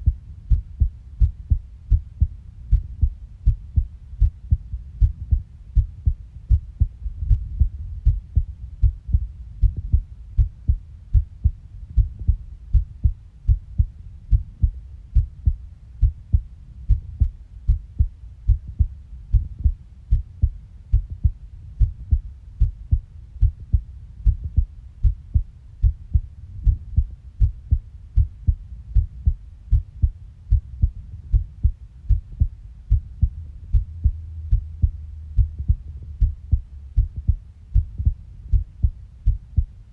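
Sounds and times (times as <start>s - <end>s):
heartbeat thuds: 0.0s - 39.9s.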